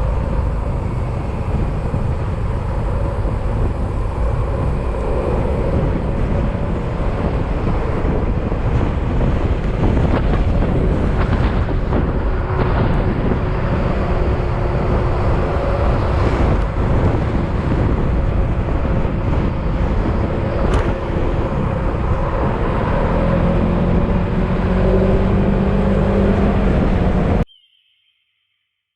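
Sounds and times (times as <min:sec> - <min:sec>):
wind noise on microphone: 0:00.0 - 0:27.5.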